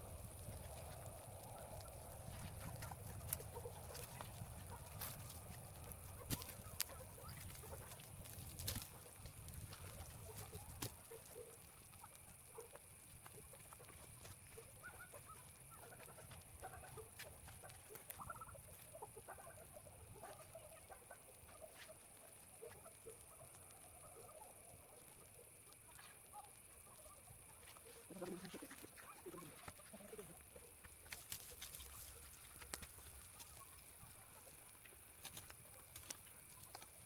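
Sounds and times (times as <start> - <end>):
chickens clucking faintly: 0.0 - 37.0.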